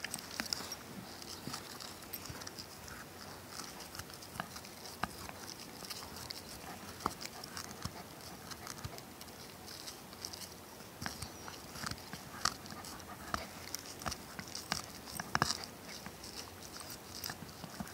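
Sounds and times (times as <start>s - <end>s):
puppy teeth clicking on tennis ball: 0.0s - 17.9s.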